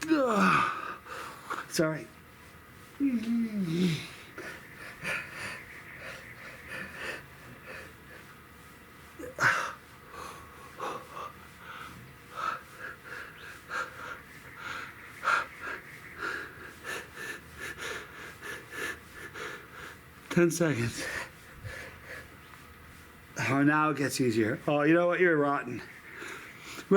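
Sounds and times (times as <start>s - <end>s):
man breathing hard: 0.0s - 1.7s, 3.6s - 23.4s, 26.1s - 26.9s.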